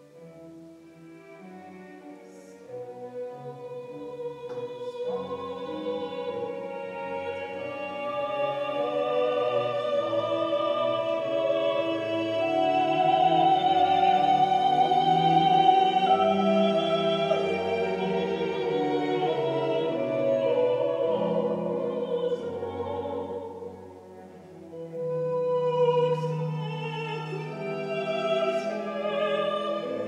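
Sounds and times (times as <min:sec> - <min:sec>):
orchestral accompaniment: 0:00.0 - 0:30.0.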